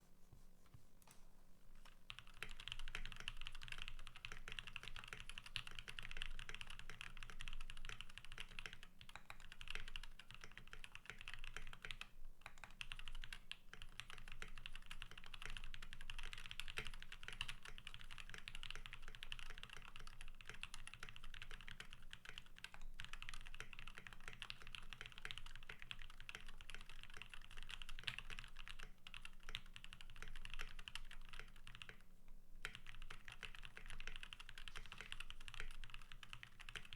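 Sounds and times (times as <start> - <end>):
mechanical keyboard typing: 1.8 - 36.9.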